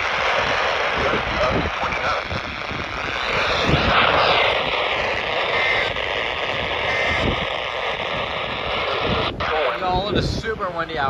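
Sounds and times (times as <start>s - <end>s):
radio static hiss: 0.0s - 11.0s
wind buffeting microphone: 0.0s - 11.0s.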